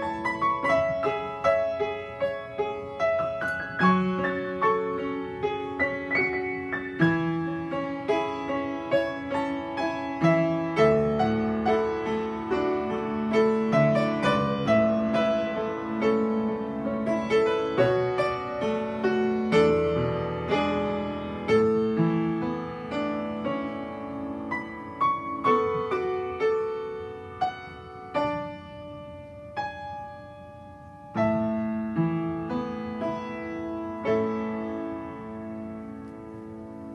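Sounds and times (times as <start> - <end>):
slow solo piano melody: 0.0 - 36.9.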